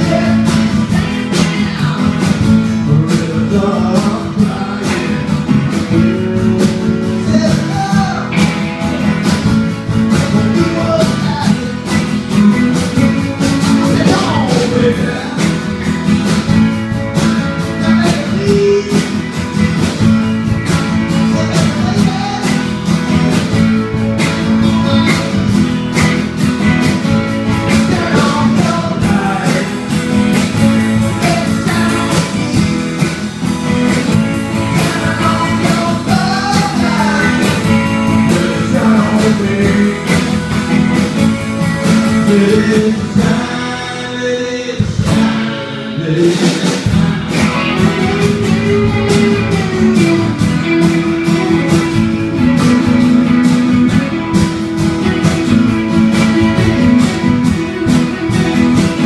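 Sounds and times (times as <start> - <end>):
bending guitar lead line: 0.0 - 59.0
electric guitars playing chords: 0.0 - 59.0.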